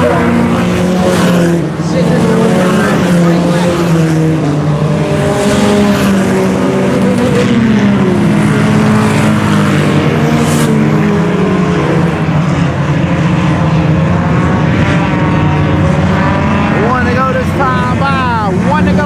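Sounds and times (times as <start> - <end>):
race car engines revving: 0.0 - 19.0.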